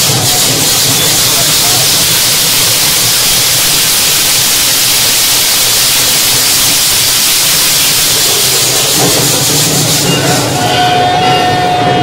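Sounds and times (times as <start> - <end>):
dense crowd noise: 0.0 - 12.0.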